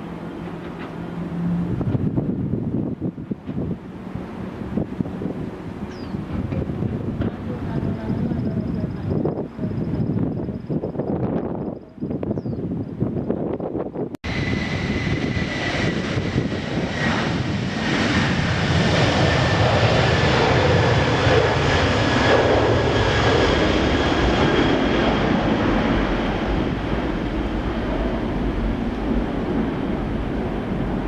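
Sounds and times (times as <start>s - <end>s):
airliner engines whining and rushing: 0.0s - 31.0s.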